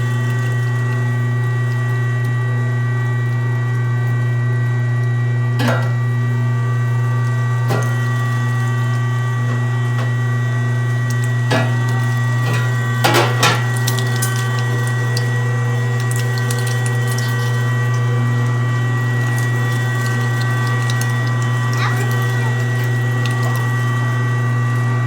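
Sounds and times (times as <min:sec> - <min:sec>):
electric meat grinder humming: 0:00.0 - 0:25.0.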